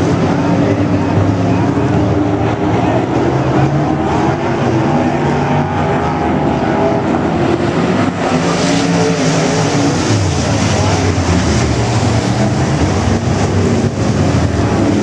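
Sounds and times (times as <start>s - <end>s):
race car engines racing: 0.0s - 15.0s.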